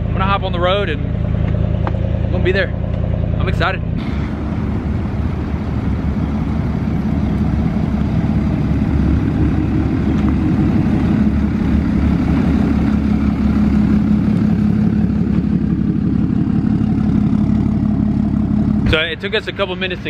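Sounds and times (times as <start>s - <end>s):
diesel truck engine droning: 0.0s - 20.0s.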